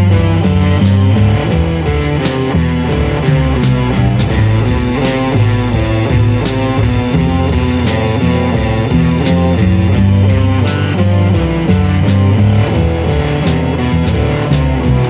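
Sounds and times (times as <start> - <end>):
rock band playing instrumental: 0.0 - 15.0.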